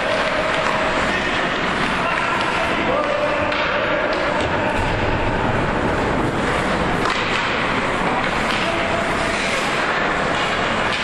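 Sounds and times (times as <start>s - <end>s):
skate blades scraping ice: 0.0s - 11.0s.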